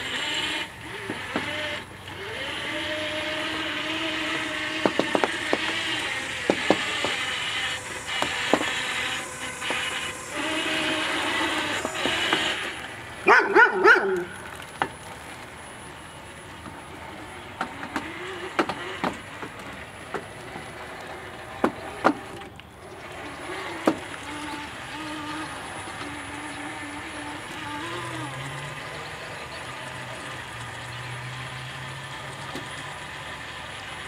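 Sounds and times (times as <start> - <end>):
robot electric drive whining: 0.0 - 34.0.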